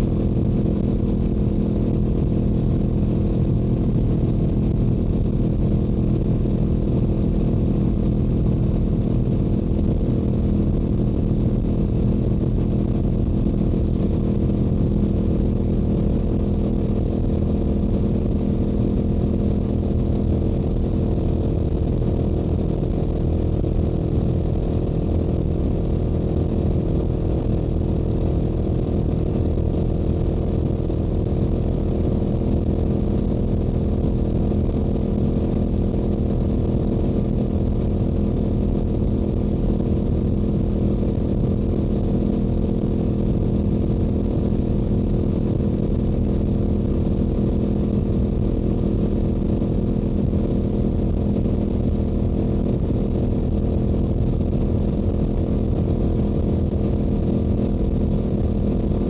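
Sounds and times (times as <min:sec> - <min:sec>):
low wind rumble: 0:00.0 - 0:59.0.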